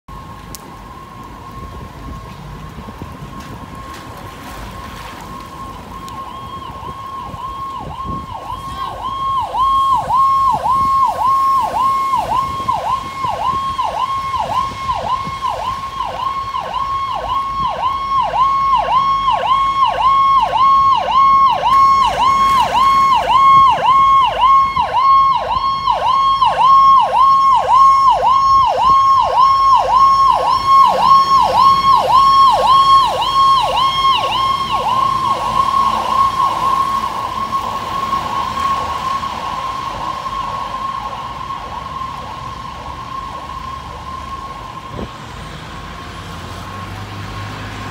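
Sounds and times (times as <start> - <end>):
fire engine siren cycling fast: 0.1 - 47.9.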